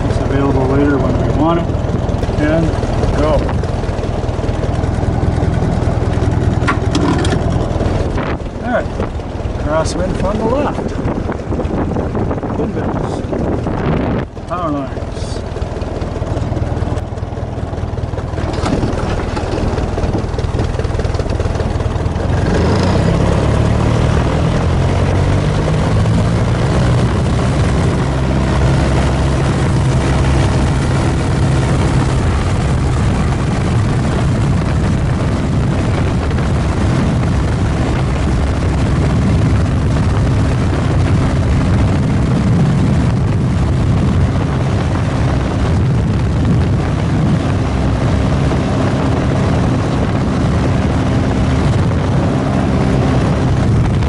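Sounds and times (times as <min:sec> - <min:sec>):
biplane engine revving: 0:00.0 - 0:54.0.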